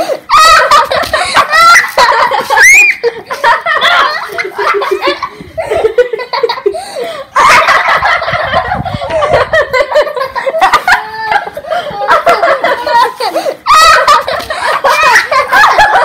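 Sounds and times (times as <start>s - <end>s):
children laughing: 0.0s - 16.0s.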